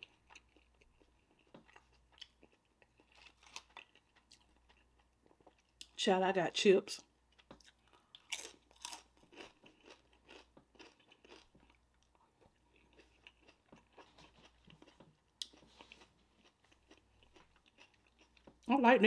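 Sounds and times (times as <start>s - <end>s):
chewing crunchy food: 0.0s - 6.0s, 7.3s - 18.7s.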